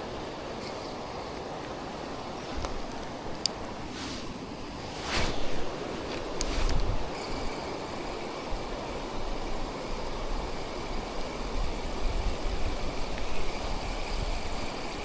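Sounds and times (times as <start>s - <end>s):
wind buffeting microphone: 2.2s - 15.0s.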